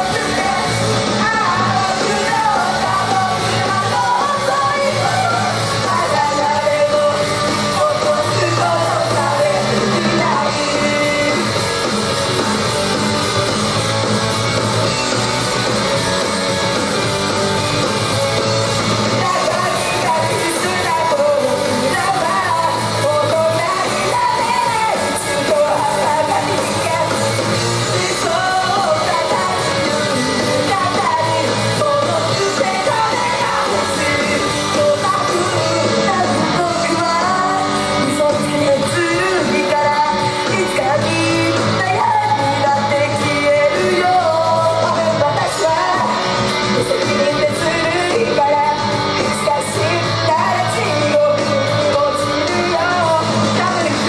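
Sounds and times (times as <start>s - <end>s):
women singing into microphones: 0.0s - 11.6s, 19.1s - 54.0s
loud pop-rock music: 0.0s - 54.0s.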